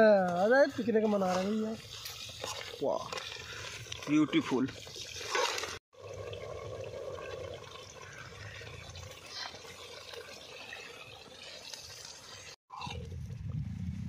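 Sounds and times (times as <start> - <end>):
liquid pouring and trickling: 0.1 - 13.2.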